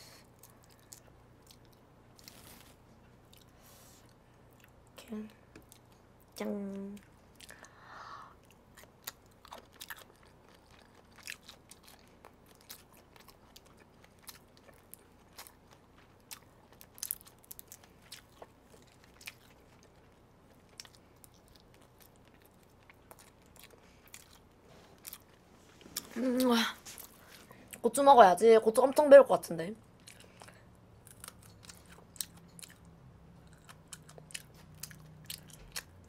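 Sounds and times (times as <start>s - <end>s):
person chewing: 0.2s - 4.8s, 8.4s - 27.8s, 29.9s - 36.0s.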